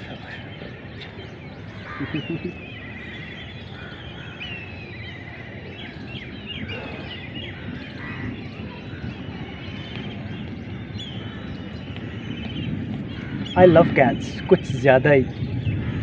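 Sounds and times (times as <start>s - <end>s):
low outdoor rumble: 0.0s - 16.0s
small birds chirping and trilling: 0.0s - 16.0s.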